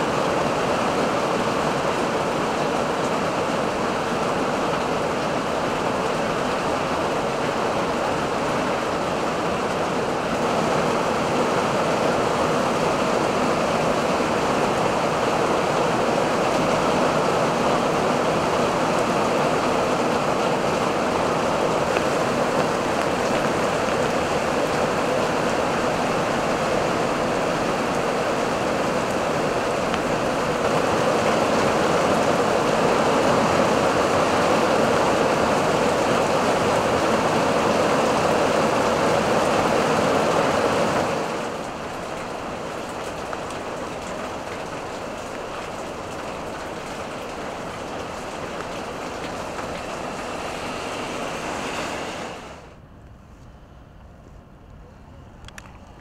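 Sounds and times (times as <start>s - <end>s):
torrential rain pouring: 0.0s - 52.8s.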